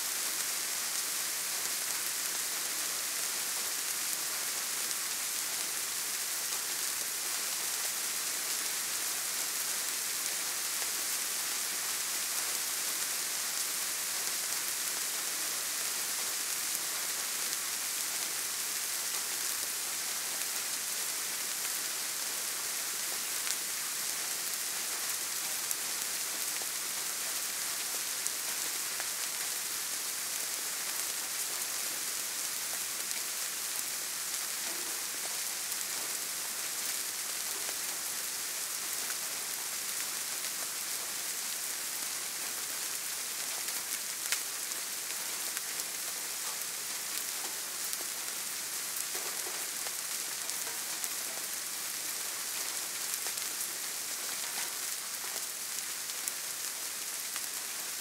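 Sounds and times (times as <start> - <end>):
soft rain: 0.0 - 58.0.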